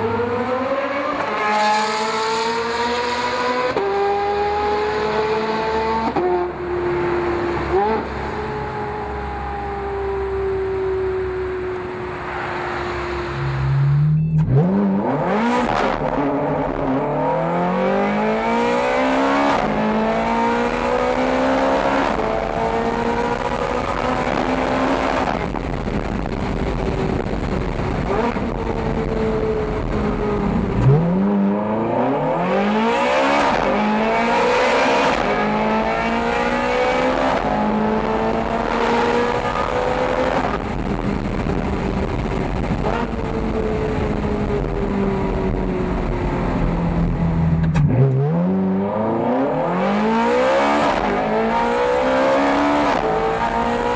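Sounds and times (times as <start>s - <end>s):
car engine accelerating hard: 0.0s - 53.9s.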